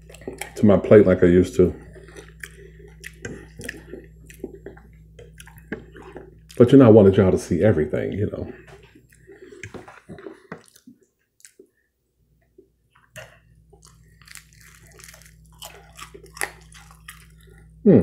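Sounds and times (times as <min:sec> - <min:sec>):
crunching and wet chewing: 0:00.0 - 0:06.8, 0:08.5 - 0:11.8, 0:12.6 - 0:17.8.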